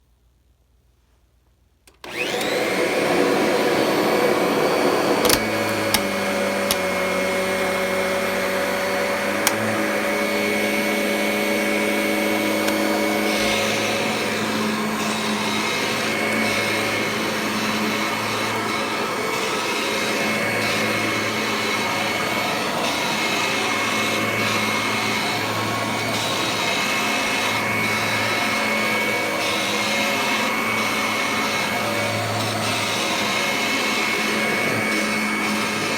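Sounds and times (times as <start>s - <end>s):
vacuum cleaner running: 2.0s - 35.9s.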